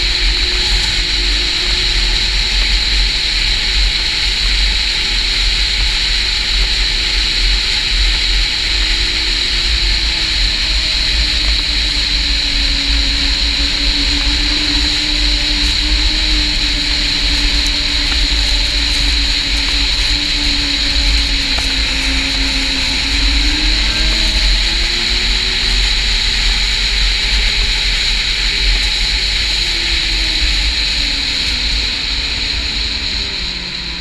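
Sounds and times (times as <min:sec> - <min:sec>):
snowmobile engine drone: 0:00.0 - 0:34.0
steady high hiss: 0:00.0 - 0:34.0
wind buffeting microphone: 0:00.0 - 0:34.0.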